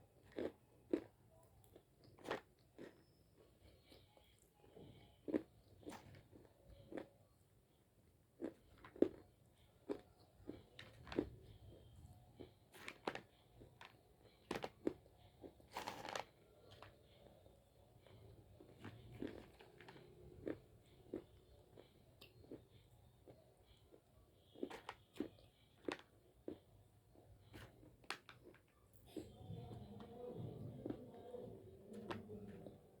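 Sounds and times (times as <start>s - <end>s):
clay being chewed crunching: 0.2s - 7.1s, 8.4s - 17.0s, 18.0s - 29.2s.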